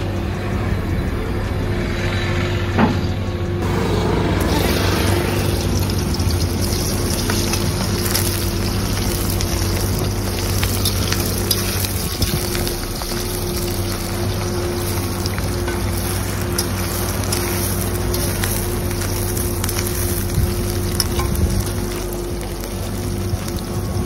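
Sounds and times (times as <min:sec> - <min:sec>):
steady low hum: 0:00.0 - 0:24.0
onions sizzling in oil: 0:04.4 - 0:24.0.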